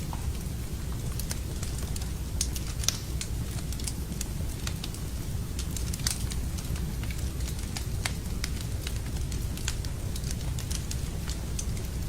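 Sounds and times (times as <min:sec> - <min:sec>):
low rumble of flames: 0:00.0 - 0:12.0
wood fire crackling and popping: 0:00.0 - 0:12.0.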